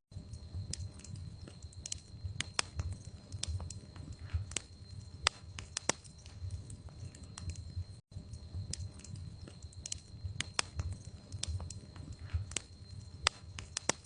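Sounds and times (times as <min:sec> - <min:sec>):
wood fire crackling: 0:00.1 - 0:14.0.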